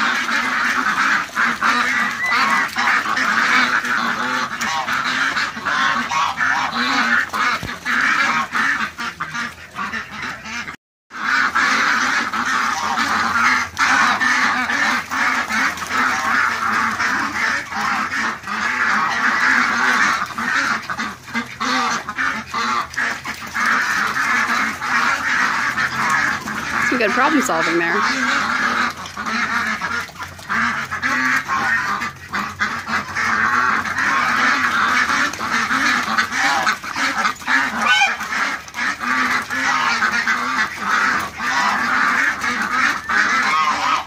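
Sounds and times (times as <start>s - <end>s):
ducks quacking: 0.0s - 44.0s.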